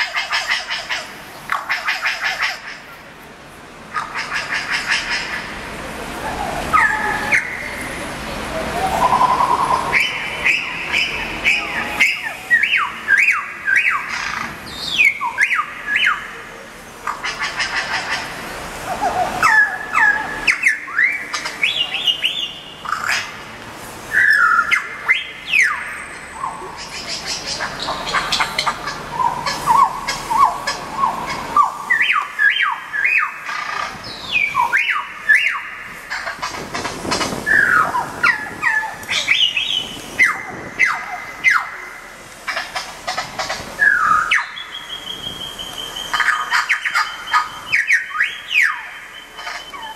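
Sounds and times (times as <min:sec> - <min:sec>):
recorded bird calls on loudspeaker: 0:00.0 - 0:03.0, 0:03.9 - 0:23.5, 0:24.1 - 0:49.9.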